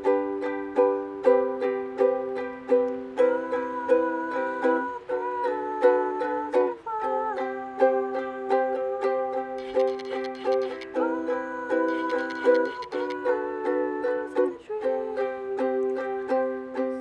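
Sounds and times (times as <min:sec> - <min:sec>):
ukulele strumming: 0:00.0 - 0:17.0.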